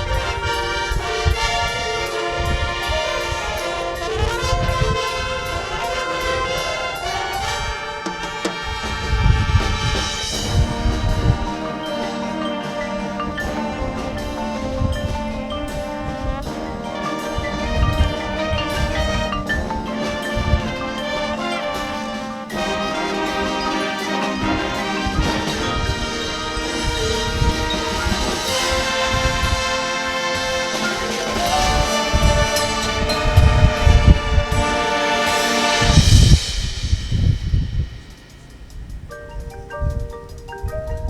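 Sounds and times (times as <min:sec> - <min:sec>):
brass holding chords: 0:00.0 - 0:37.6
drums and percussion: 0:00.0 - 0:41.0.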